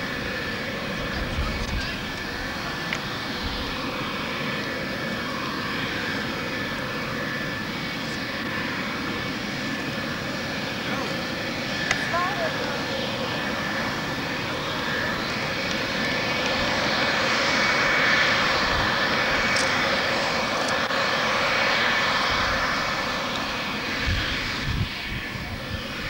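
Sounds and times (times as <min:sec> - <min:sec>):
jet engines idling with high whine: 0:00.0 - 0:26.0.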